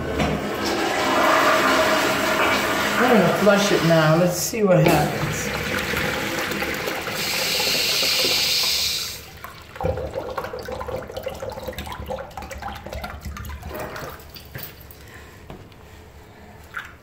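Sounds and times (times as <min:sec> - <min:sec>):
water splashing and draining: 0:00.0 - 0:14.7
urinal flushing: 0:00.0 - 0:17.0.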